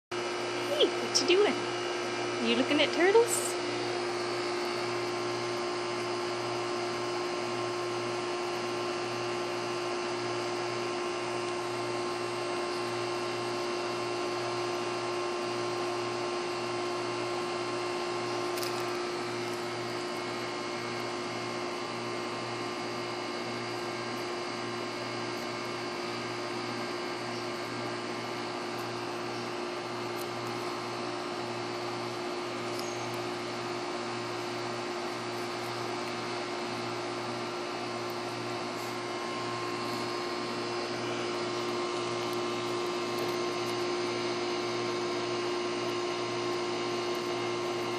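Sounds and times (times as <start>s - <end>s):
machine humming: 0.2s - 47.9s.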